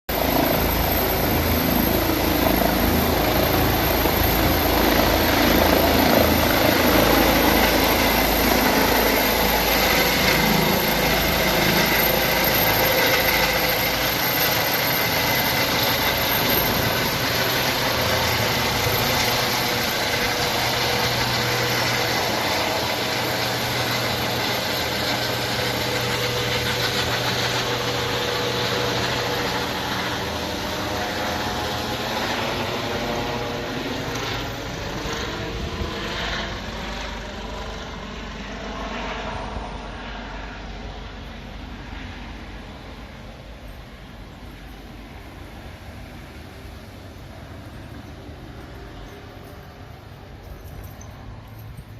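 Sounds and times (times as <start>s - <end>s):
helicopter engine and rotor: 0.1s - 51.9s.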